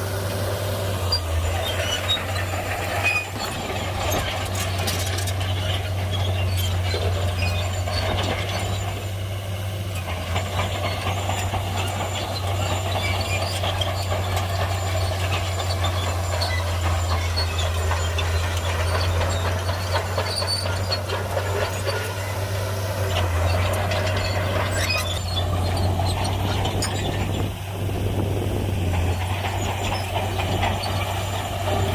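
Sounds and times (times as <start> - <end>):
bulldozer diesel engine droning: 0.0 - 31.9
steel tracks clattering: 0.3 - 31.9.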